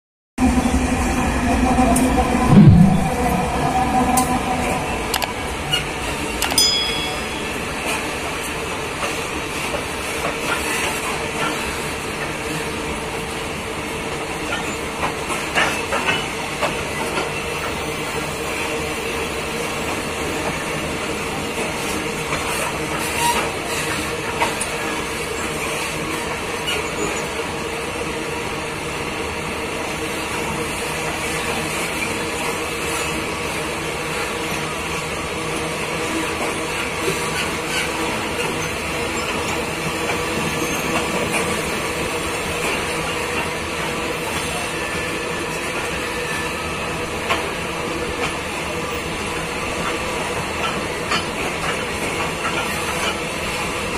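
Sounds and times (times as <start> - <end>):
train wheels rumbling on rail: 0.4 - 53.9.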